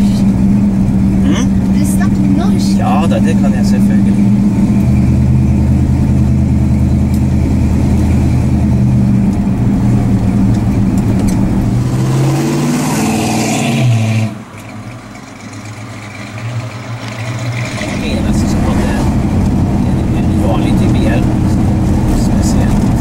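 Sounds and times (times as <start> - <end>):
car engine accelerating: 0.0 - 23.0
car engine approaching: 0.0 - 23.0.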